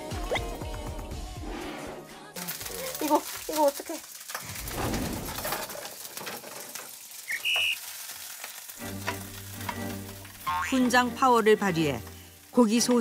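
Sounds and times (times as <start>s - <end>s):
meat sizzling in a frying pan: 2.4s - 13.0s.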